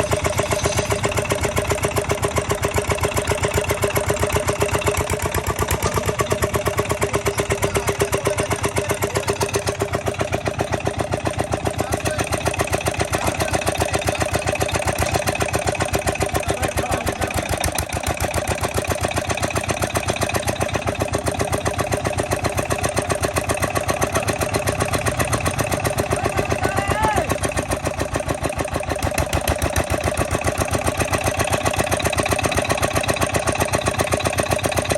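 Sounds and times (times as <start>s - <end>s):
diesel engine running pump: 0.0s - 34.9s.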